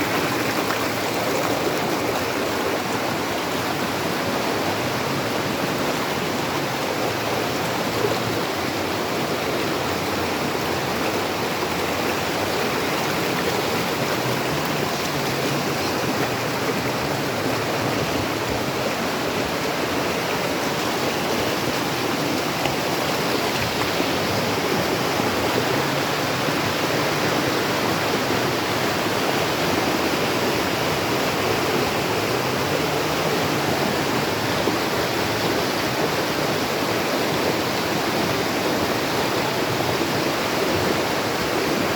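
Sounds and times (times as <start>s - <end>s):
waterfall roaring: 0.0s - 41.9s.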